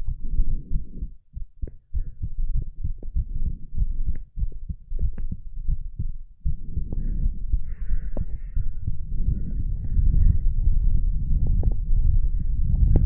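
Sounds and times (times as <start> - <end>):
body rubbing and rumbling: 0.0 - 13.0
heartbeat thumps: 0.0 - 13.0.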